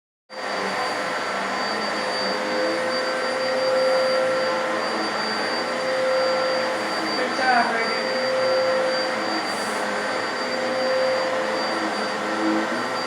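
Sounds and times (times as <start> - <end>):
vacuum cleaner running: 0.3 - 13.0.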